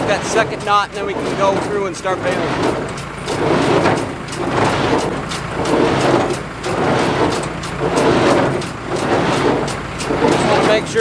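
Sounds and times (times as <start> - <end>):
baler clattering rhythmically: 0.0 - 11.0
tractor engine humming: 0.0 - 11.0.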